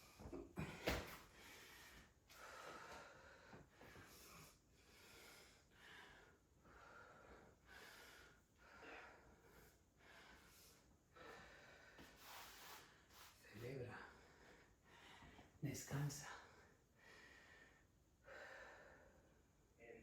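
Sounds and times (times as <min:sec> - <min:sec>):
woman breathing hard: 0:00.0 - 0:12.9, 0:14.1 - 0:15.6, 0:16.6 - 0:19.5.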